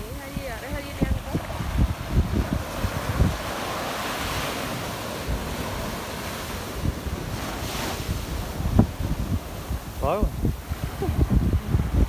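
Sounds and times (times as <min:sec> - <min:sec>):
waves breaking on sand: 0:00.0 - 0:12.0
wind buffeting microphone: 0:00.0 - 0:12.0.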